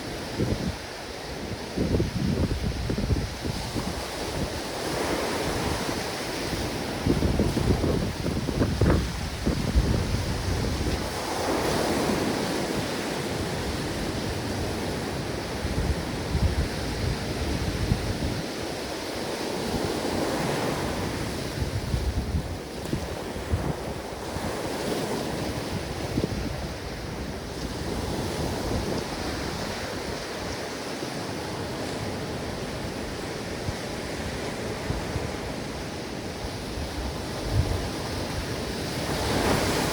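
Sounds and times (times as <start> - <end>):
ocean waves breaking on beach: 0.0 - 39.9
wind rumbling on microphone: 0.0 - 39.9.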